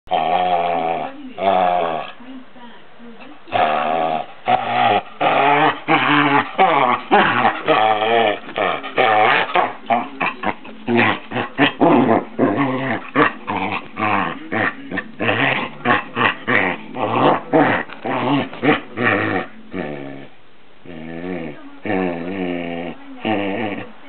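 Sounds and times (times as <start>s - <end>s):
dogs play-growling: 0.1s - 2.2s, 3.3s - 24.0s.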